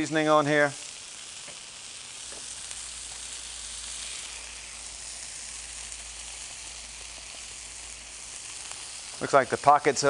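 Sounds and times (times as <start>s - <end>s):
vegetables sizzling in a skillet: 0.0s - 10.0s.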